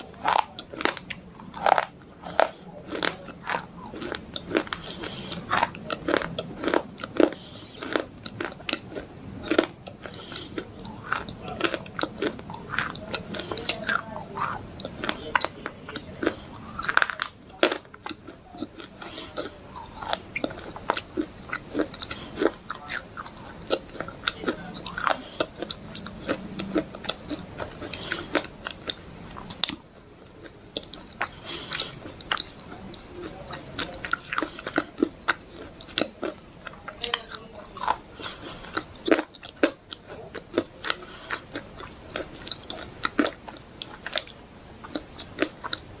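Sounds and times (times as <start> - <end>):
person chewing dry clay: 0.0 - 46.0.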